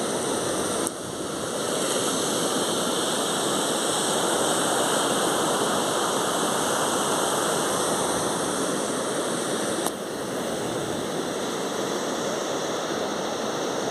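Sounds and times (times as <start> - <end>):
steady rushing noise: 0.0 - 13.9.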